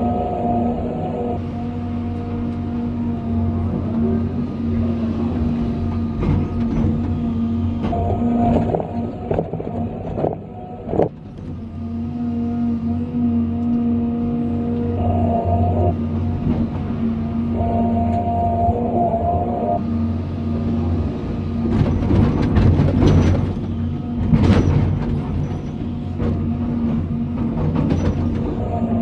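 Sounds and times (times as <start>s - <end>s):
excavator diesel engine and hydraulics: 0.0s - 29.0s.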